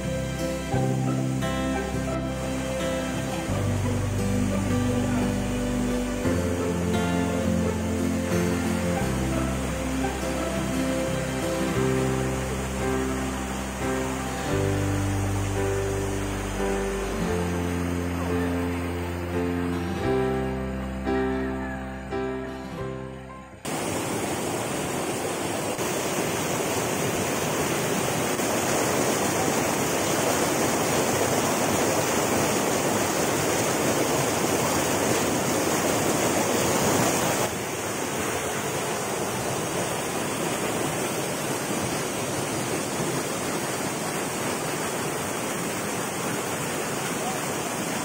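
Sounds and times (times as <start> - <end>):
small waterfall into a pool: 0.0 - 19.4, 23.6 - 48.0
river water rushing over rocks: 0.0 - 22.8, 23.6 - 48.0.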